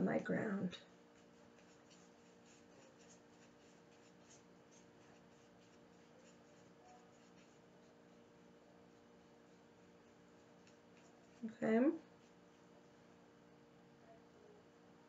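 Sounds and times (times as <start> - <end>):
steady low hum: 0.0 - 15.0
paintbrush scratching on paper: 0.8 - 13.0.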